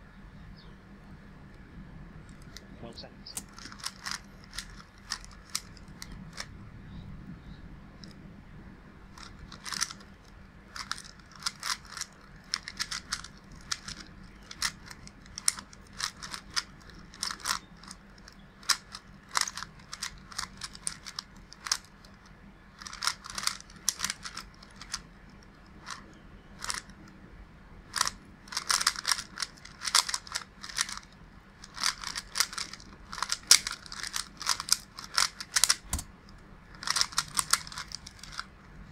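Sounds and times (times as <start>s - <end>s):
puzzle cube clicking: 3.3s - 6.5s, 9.2s - 27.2s, 27.9s - 38.8s.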